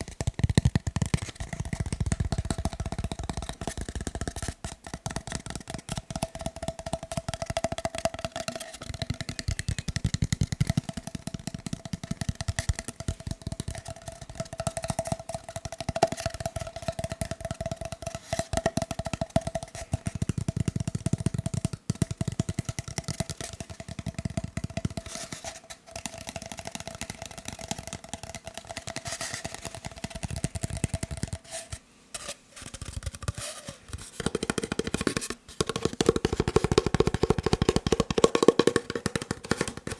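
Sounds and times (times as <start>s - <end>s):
fast tapping on paper roll: 0.0s - 31.7s, 32.6s - 39.9s.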